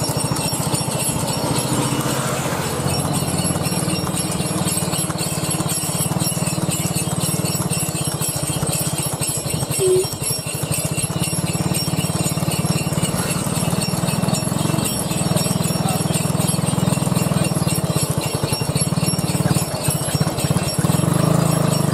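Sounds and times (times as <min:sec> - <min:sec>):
horse hooves clip-clopping on pavement: 0:00.0 - 0:21.9.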